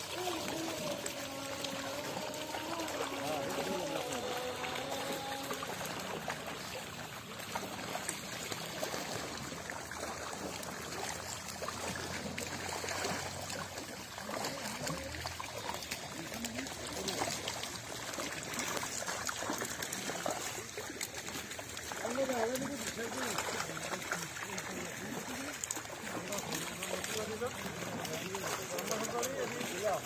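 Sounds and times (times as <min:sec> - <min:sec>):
fish thrashing at water surface: 0:00.0 - 0:30.0
water trickling and splashing: 0:00.0 - 0:30.0.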